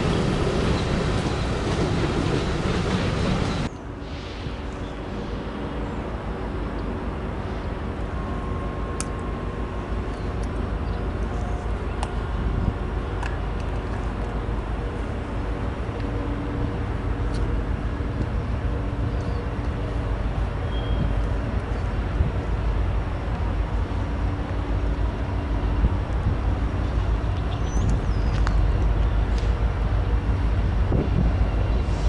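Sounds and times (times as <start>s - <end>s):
locomotive engine rumble: 0.0s - 32.0s.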